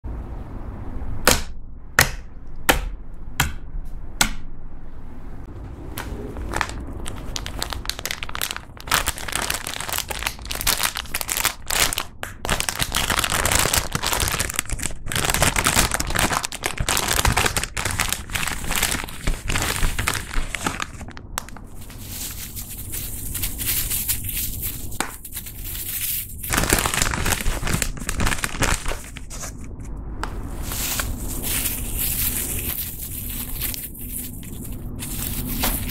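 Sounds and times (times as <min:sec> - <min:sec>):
plastic bag crinkling: 0:06.2 - 0:29.8, 0:30.4 - 0:35.9.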